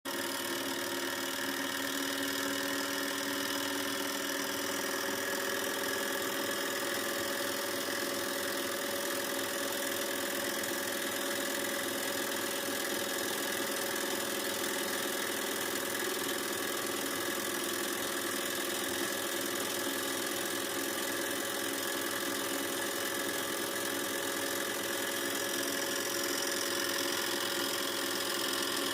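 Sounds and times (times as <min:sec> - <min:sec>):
small engine whirring and clattering: 0:00.1 - 0:28.9.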